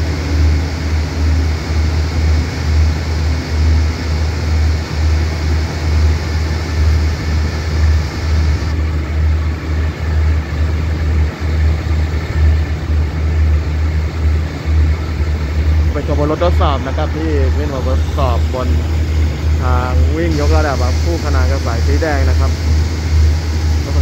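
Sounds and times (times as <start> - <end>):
steady hiss: 0.0 - 24.0
train idling rumble: 0.0 - 24.0.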